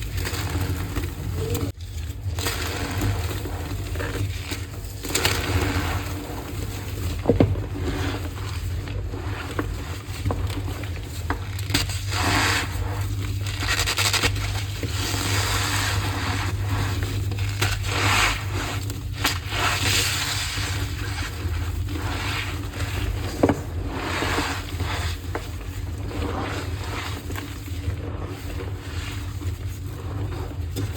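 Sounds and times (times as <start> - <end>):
chalk crumbling and scraping: 0.0 - 30.9.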